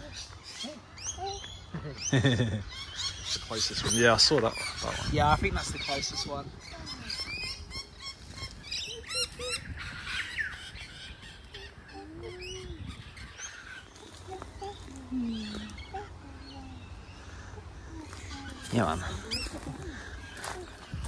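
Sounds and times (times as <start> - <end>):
bird squawks and calls: 0.0 - 21.0.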